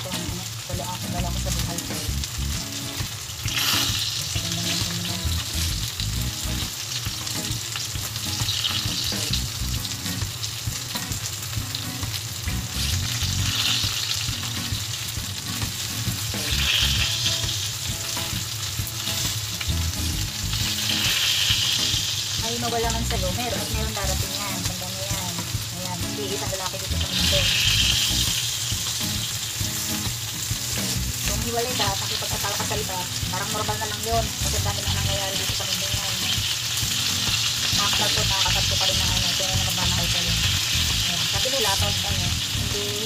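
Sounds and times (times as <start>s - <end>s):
chicken sizzling on a grill: 0.0s - 43.0s.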